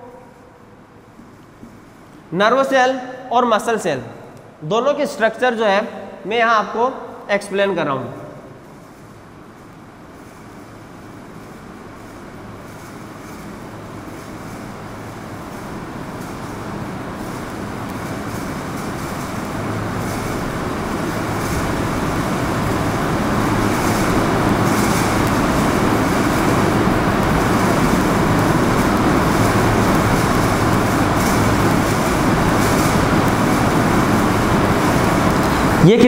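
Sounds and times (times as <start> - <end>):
rumbling background noise: 0.0 - 36.0.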